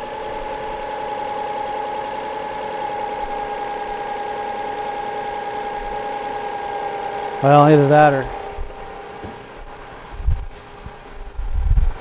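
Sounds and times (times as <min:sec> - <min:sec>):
engine whine: 0:00.0 - 0:12.0.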